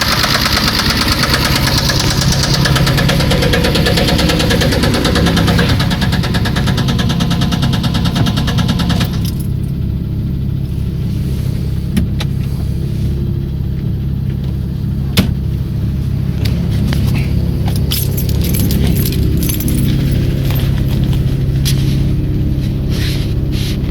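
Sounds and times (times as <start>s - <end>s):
engine metallic clatter: 0.0s - 23.9s.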